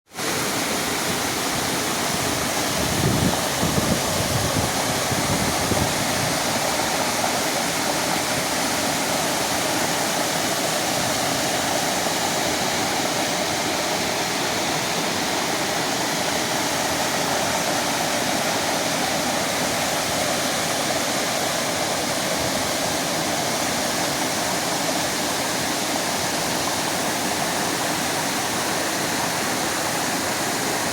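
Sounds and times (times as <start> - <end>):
river water flowing: 0.1 - 30.9.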